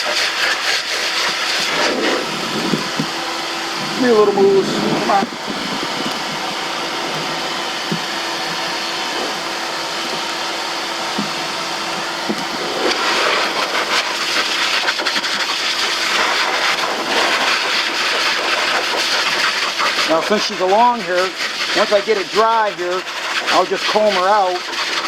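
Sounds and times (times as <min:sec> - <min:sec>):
dryer blowing air: 0:00.0 - 0:25.0.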